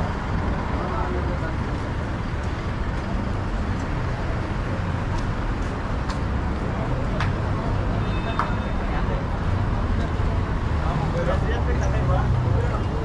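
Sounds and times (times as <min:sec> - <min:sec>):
cars rumbling past: 0:00.0 - 0:13.0.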